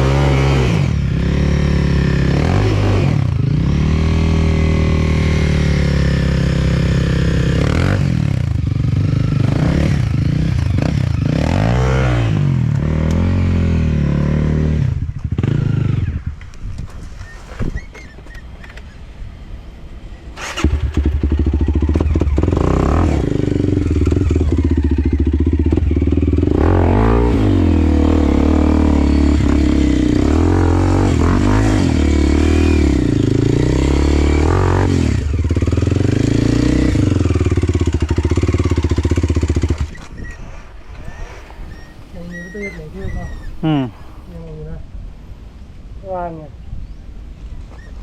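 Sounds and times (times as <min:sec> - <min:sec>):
dirt bike engine revving: 0:00.0 - 0:16.2, 0:20.4 - 0:43.9.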